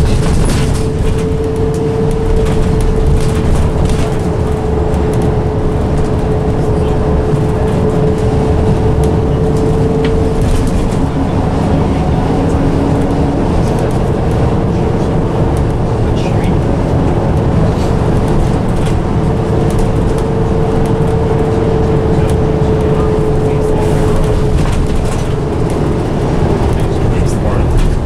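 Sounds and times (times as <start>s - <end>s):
bus diesel engine drone: 0.0s - 28.0s
lower whine: 0.0s - 28.0s.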